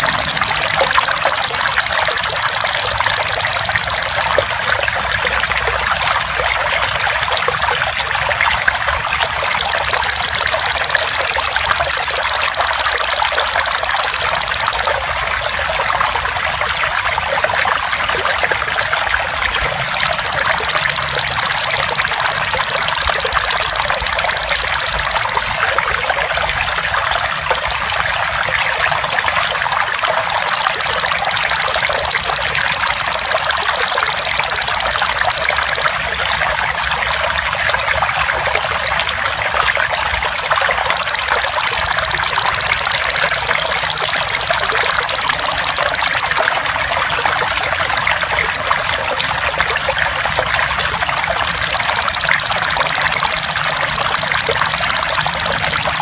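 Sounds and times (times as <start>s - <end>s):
water trickling and gurgling: 0.0s - 56.0s.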